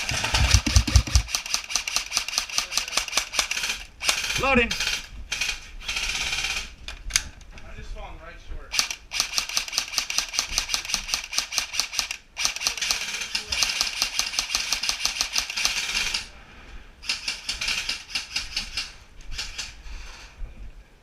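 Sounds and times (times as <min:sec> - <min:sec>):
airsoft rifle rapid clicking bursts: 0:00.0 - 0:06.8, 0:08.7 - 0:16.3, 0:17.0 - 0:19.8.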